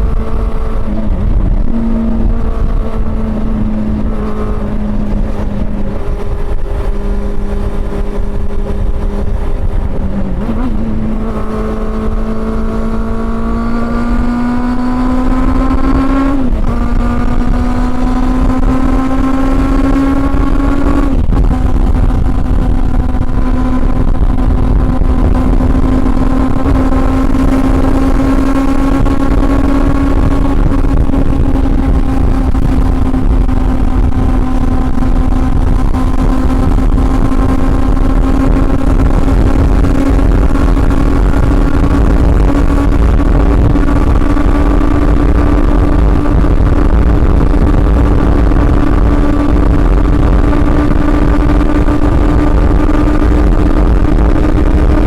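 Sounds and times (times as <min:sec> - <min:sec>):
motorcycle engine revving and shifting: 0:00.0 - 0:55.0.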